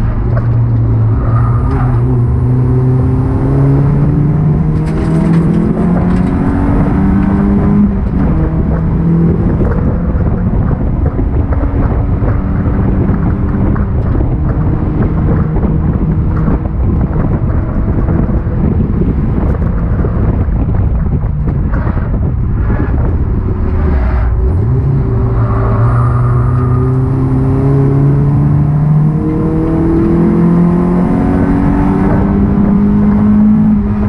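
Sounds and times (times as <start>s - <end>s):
race car engine accelerating: 0.0s - 20.7s, 21.4s - 34.0s
wind and road noise: 0.0s - 34.0s.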